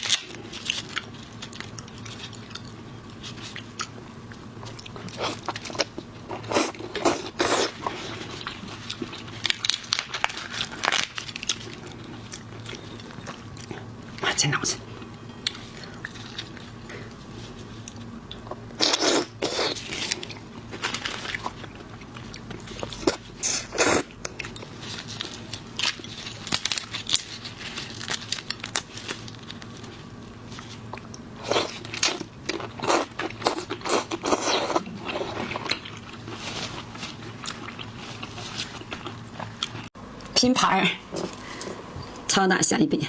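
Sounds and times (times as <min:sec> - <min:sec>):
crunching and chewing seafood: 0:00.0 - 0:40.4.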